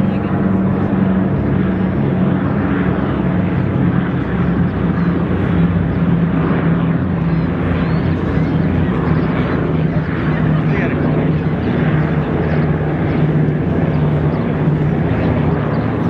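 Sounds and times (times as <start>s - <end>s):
airplane engines droning: 0.0s - 16.0s.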